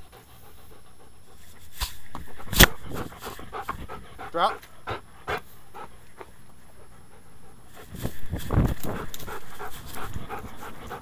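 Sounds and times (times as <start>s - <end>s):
dog panting: 0.0s - 1.6s, 2.3s - 8.0s, 8.7s - 11.0s.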